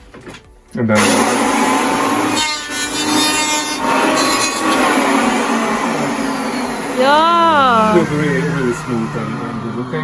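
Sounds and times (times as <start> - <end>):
electric saw cutting wood: 1.0 - 10.0.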